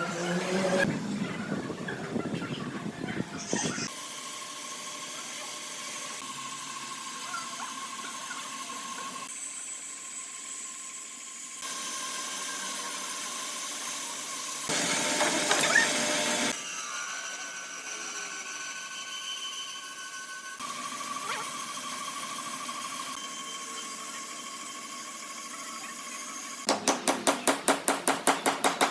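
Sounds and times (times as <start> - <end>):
power tools cutting wood: 3.9 - 27.4.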